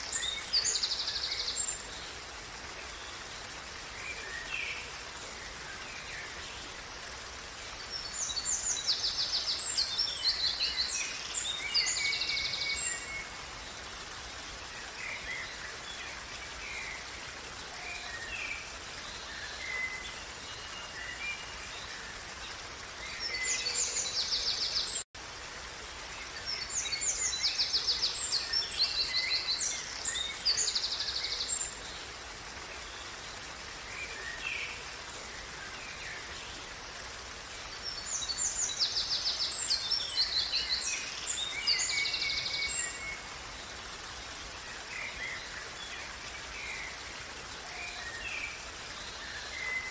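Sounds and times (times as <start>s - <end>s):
songbirds trilling and chirping: 0.0s - 25.4s, 26.2s - 49.9s
stream rushing: 0.0s - 49.9s.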